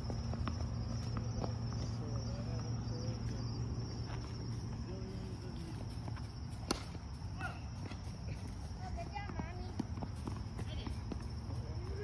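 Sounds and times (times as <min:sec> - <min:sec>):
insects droning: 0:00.0 - 0:12.0
faint distant voices: 0:00.7 - 0:12.0.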